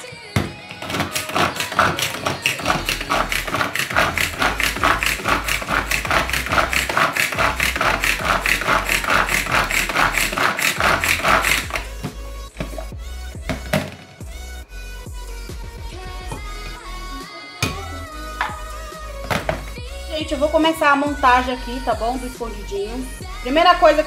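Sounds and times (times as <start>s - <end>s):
fast beat music with pulsing bass: 1.2s - 24.0s.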